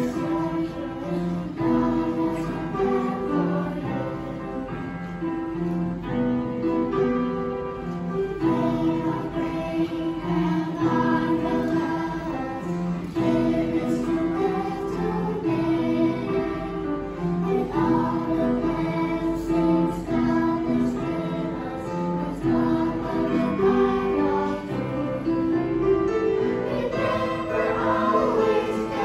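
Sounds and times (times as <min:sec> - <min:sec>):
children's choir singing: 0:00.0 - 0:29.0
instrumental accompaniment: 0:00.0 - 0:29.0.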